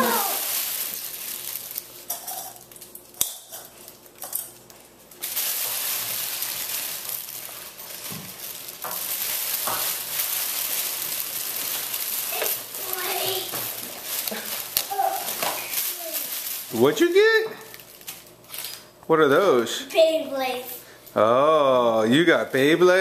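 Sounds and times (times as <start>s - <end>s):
cellophane crinkling: 0.0s - 18.9s.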